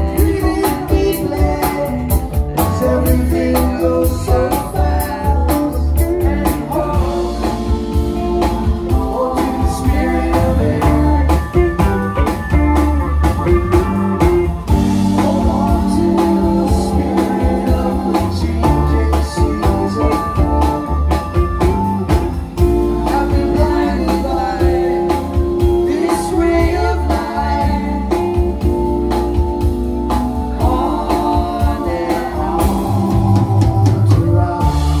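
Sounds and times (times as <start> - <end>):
person singing: 0.0 - 29.6, 30.4 - 35.0
drum kit: 0.0 - 35.0
electric bass: 0.0 - 35.0
electric guitar: 0.0 - 35.0
electric keyboard: 0.0 - 35.0.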